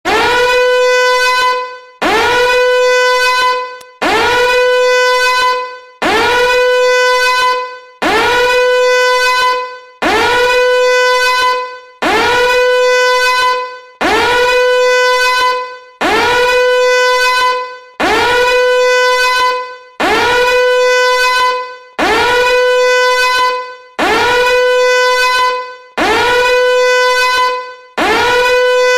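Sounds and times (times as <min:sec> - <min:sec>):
buzzy alarm horn: 0:00.1 - 0:28.9.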